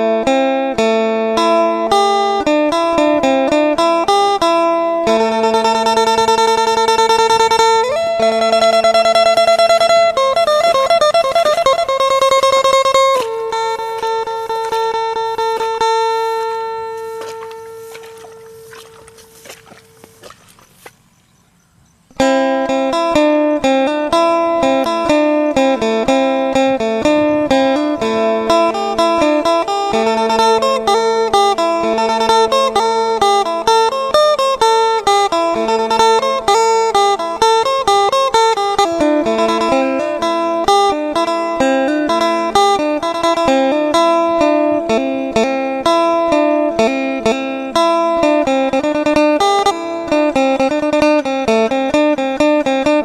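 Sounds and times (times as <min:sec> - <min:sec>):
plucked lute melody over drone: 0:00.0 - 0:20.6, 0:22.1 - 0:53.0.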